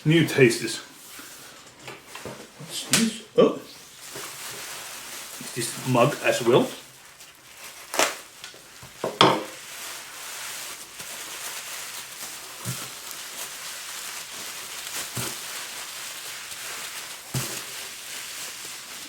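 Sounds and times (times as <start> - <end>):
wrapping paper rustling and crinkling: 0.3 - 2.8, 3.7 - 19.0.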